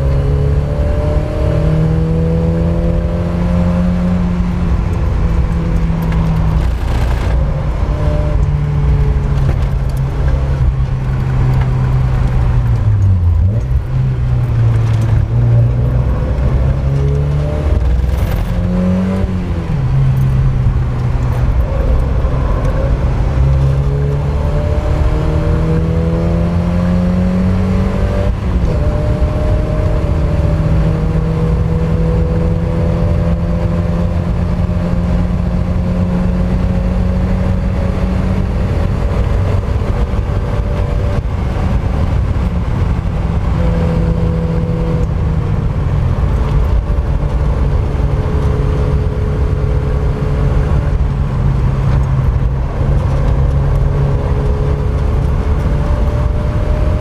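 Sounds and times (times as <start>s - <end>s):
car engine revving: 0.0s - 57.0s
wind and tyre noise: 0.0s - 57.0s.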